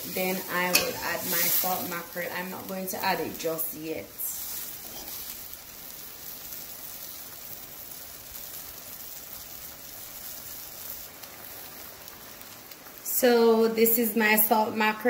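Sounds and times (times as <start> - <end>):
coconut milk simmering: 0.0 - 15.0.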